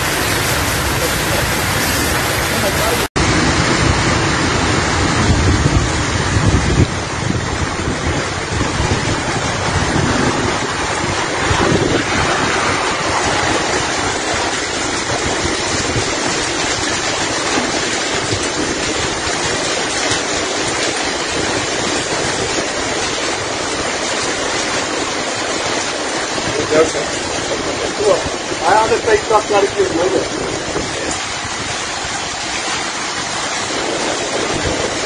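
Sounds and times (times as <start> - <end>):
heavy rain and hail: 0.0 - 35.0
wind buffeting microphone: 0.0 - 35.0.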